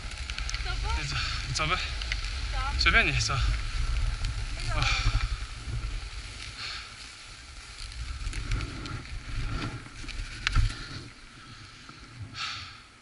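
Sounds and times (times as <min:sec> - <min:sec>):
skis scraping over snow: 0:00.0 - 0:12.7
wind buffeting microphone: 0:00.0 - 0:13.0.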